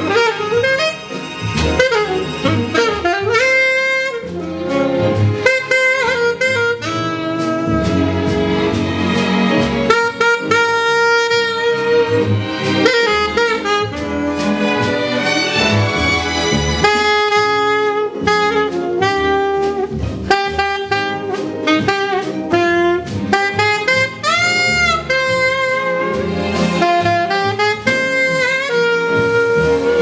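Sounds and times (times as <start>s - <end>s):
jazz rhythm section with drums: 0.0s - 30.0s
jazz saxophone lead: 0.0s - 30.0s.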